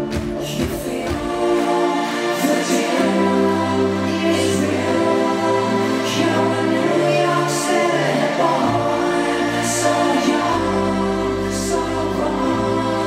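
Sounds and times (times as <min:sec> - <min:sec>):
choir-like backing vocals: 0:00.0 - 0:13.0
synthesizer chords: 0:00.0 - 0:13.0.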